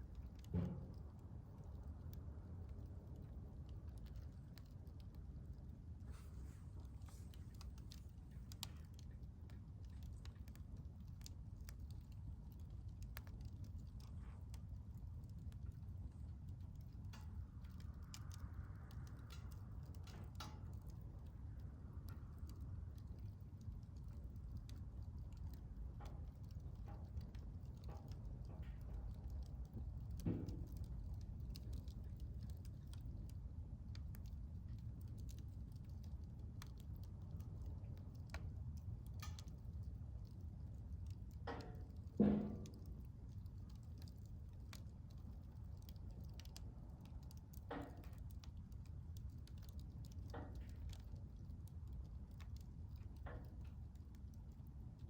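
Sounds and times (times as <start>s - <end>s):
low steady rumble: 0.0s - 54.9s
wood fire crackling: 0.0s - 55.0s.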